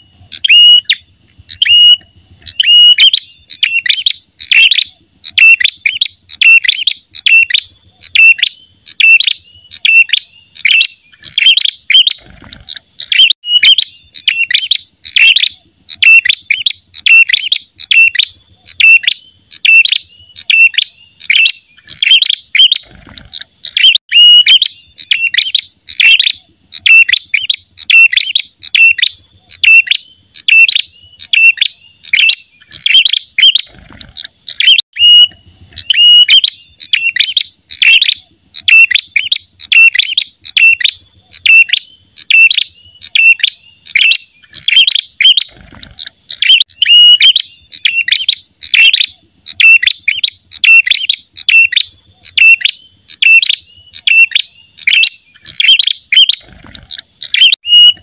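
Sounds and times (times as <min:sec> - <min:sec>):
bird chirping song: 0:00.0 - 0:58.0.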